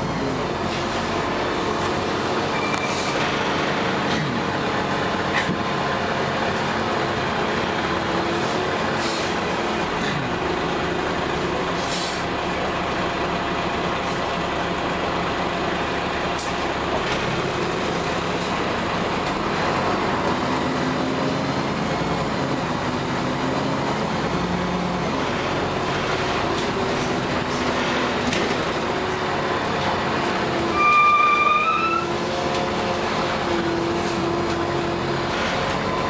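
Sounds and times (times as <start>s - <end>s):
bus engine drone: 0.0s - 36.0s
road and body noise: 0.0s - 36.0s.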